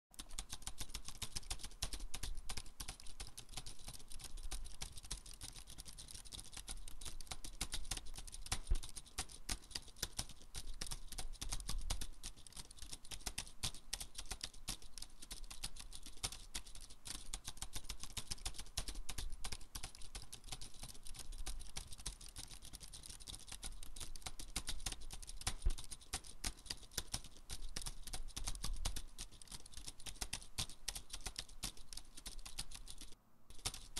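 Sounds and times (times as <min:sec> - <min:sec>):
typing on laptop keyboard: 0:00.2 - 0:33.9.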